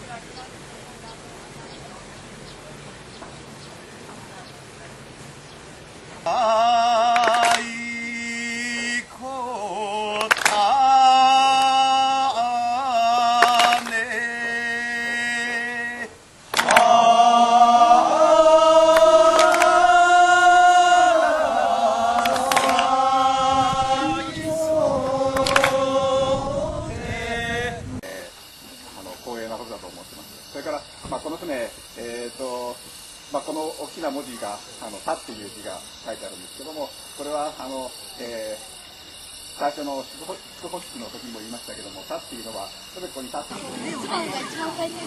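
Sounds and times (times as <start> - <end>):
voices chanting in held notes: 6.2 - 45.0.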